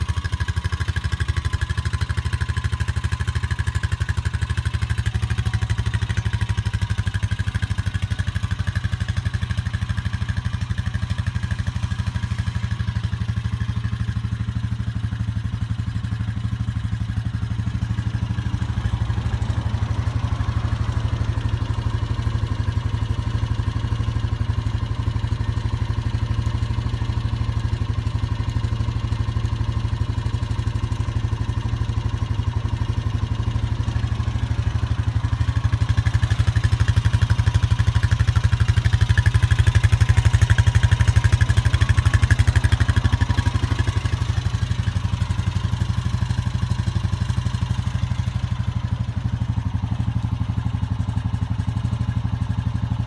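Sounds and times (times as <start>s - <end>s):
quad engine idling: 0.0s - 53.0s.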